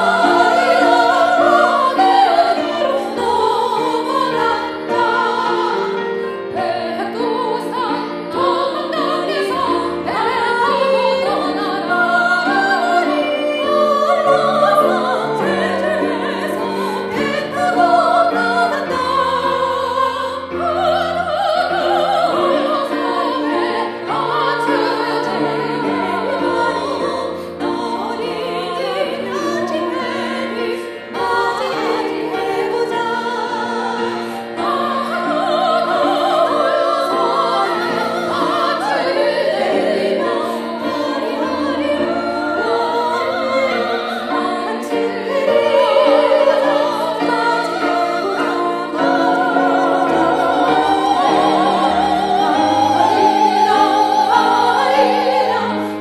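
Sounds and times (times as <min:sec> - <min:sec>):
women singing into microphones: 0:00.0 - 0:56.0.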